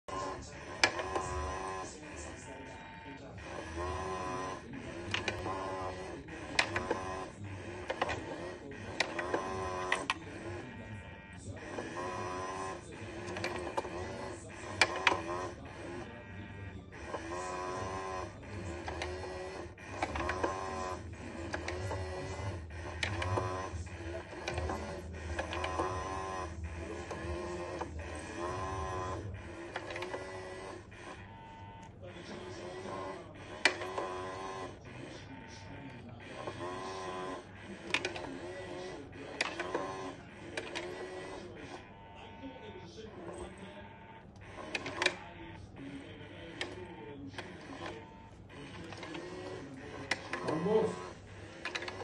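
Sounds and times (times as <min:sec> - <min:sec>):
small electric motor whirring: 0:00.0 - 0:52.0.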